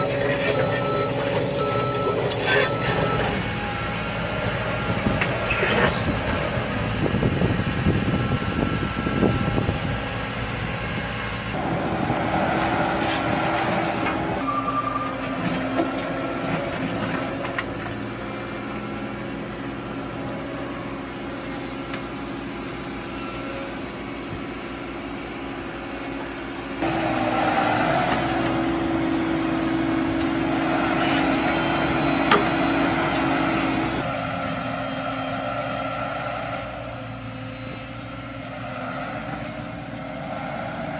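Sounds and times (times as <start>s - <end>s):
heavy machine engine running: 0.0s - 40.9s.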